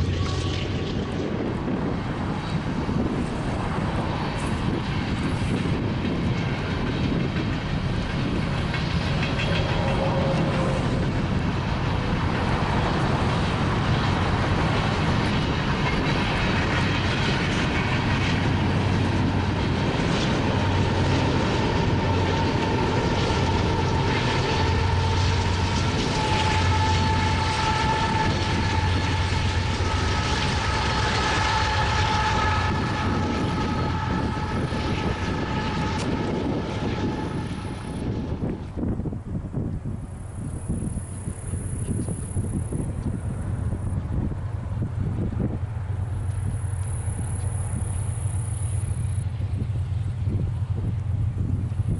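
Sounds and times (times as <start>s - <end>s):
train cars rumbling and clattering: 0.0s - 51.9s.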